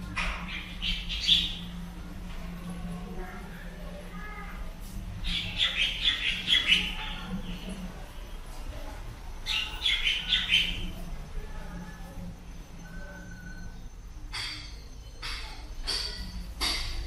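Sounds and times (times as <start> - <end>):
small birds twittering: 0.0 - 2.2, 5.0 - 17.0.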